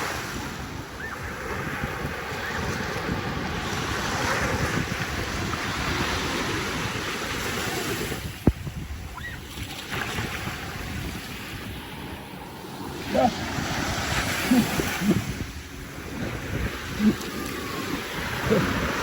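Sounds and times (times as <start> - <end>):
surf washing on beach: 0.0 - 19.0
wind buffeting microphone: 0.0 - 19.0.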